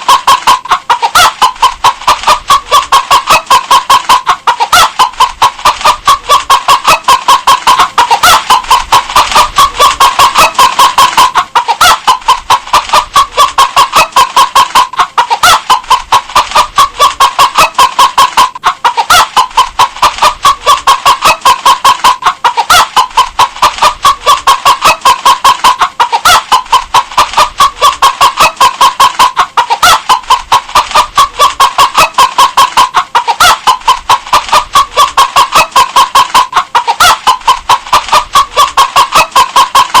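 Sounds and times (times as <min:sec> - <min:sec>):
hen clucking: 0:00.0 - 0:40.0.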